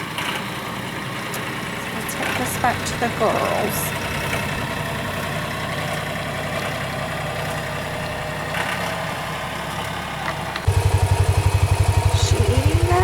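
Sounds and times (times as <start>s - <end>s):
vehicle engine idling and revving: 0.0s - 13.0s.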